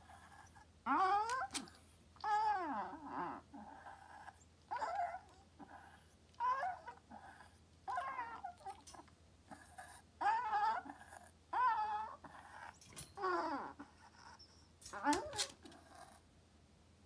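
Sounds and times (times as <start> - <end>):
small dog whining: 0.0 - 16.2.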